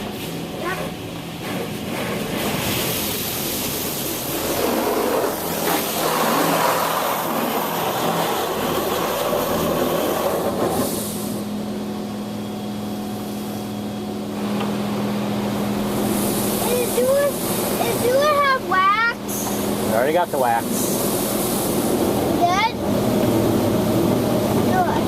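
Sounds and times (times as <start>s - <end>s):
water spraying over car: 0.0s - 11.5s, 15.3s - 25.0s
machinery hum: 0.0s - 25.0s.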